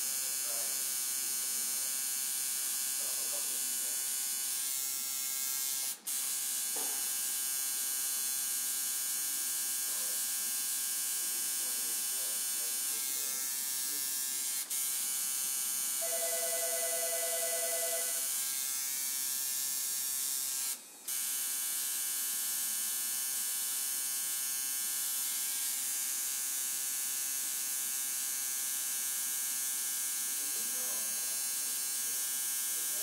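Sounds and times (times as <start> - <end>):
tattoo machine buzzing: 0.0 - 33.0.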